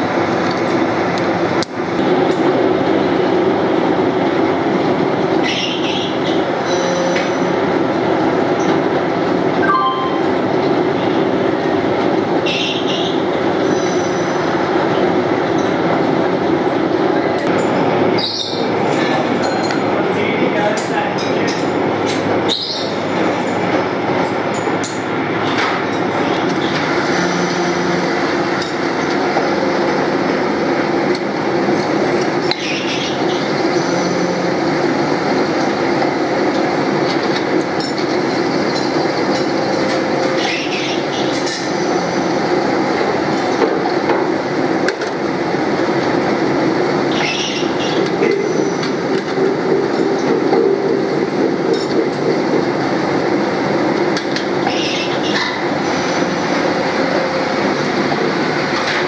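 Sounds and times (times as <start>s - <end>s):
clattering workshop machinery: 0.0s - 59.0s.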